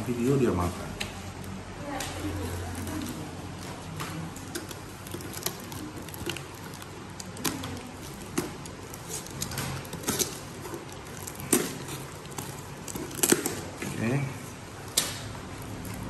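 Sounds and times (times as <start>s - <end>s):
packaging rustling: 2.4s - 16.0s.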